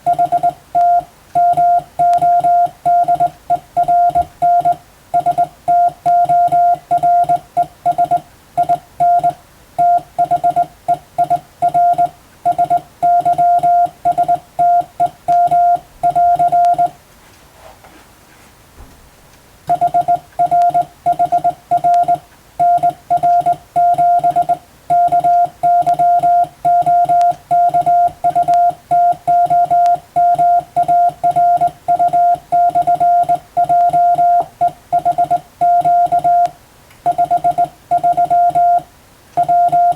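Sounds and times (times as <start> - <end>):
morse code beeps: 0.0 - 17.0, 19.7 - 39.9.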